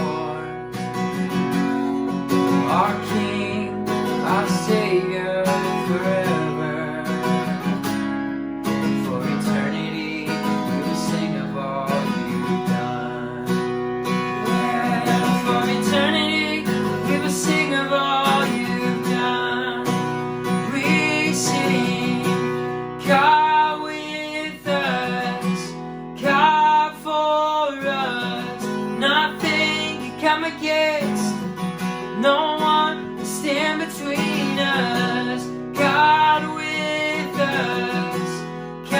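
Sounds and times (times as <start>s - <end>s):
person singing: 0.0s - 0.8s, 2.4s - 7.8s, 8.8s - 38.9s
acoustic guitar strumming: 0.0s - 38.9s.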